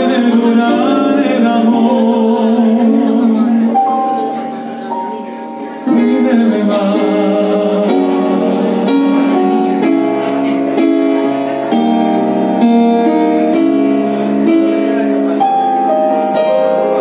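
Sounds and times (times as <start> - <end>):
piano chords on keyboard: 0.0 - 17.0.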